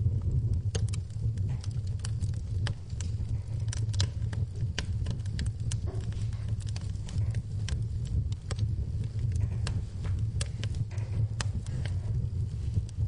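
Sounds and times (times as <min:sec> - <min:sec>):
fire crackling in a fireplace: 0:00.0 - 0:13.0.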